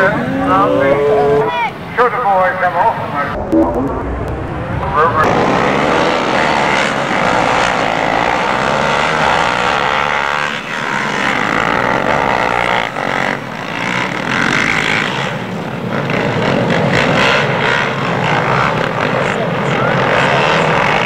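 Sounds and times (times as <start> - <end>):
loud engine noise: 3.2 - 21.0.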